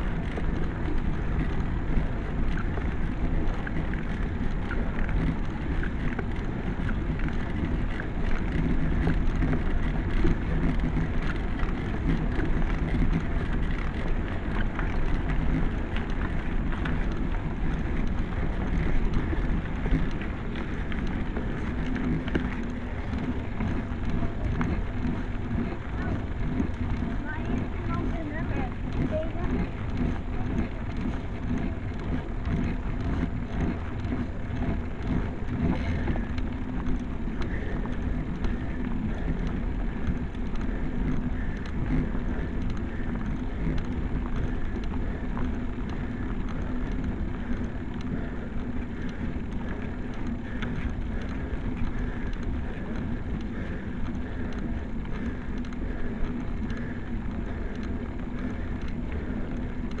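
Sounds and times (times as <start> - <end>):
bicycle frame rattling: 0.0 - 60.0
bicycle tyre rumble on rough road: 0.0 - 60.0.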